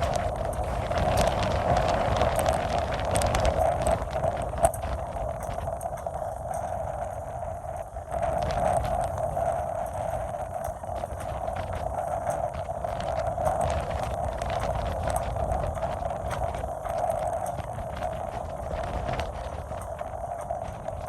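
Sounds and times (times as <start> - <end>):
strong wind buffeting microphone: 0.0 - 21.0
wind howling: 0.0 - 21.0.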